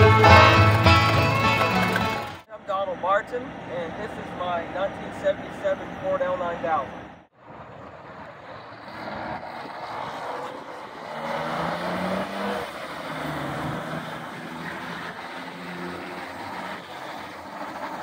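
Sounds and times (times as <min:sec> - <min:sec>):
diesel truck engine pulling away: 0:00.0 - 0:18.0.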